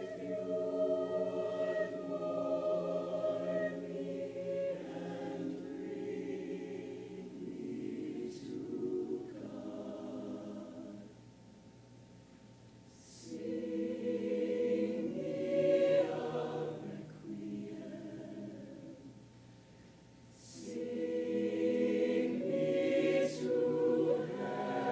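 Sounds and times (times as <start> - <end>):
choir singing sustained chords: 0.0 - 11.2, 12.9 - 19.3, 20.3 - 24.9.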